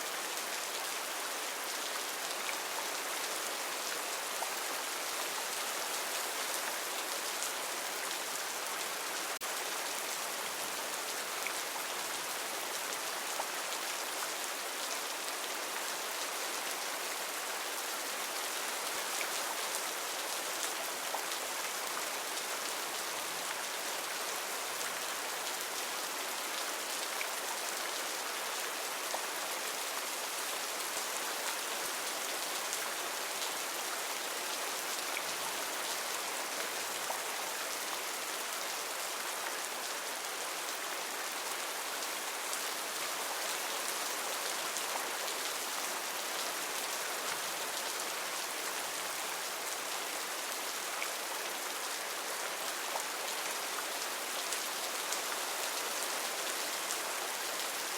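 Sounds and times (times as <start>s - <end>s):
heavy rain on foliage: 0.0s - 57.9s.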